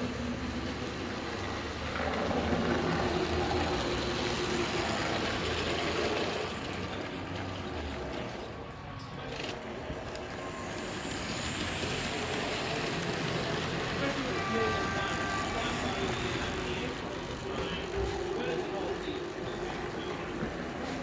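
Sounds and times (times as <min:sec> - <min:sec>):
model train motor and wheels: 0:00.0 - 0:21.0.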